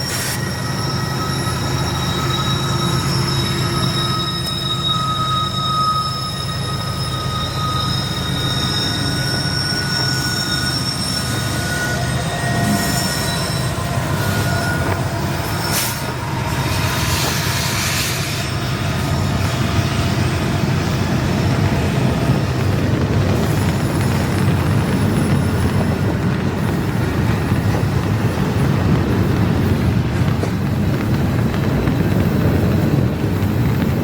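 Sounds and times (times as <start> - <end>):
freight train rumbling past: 0.0 - 34.0
train wheel squeal: 0.0 - 34.0.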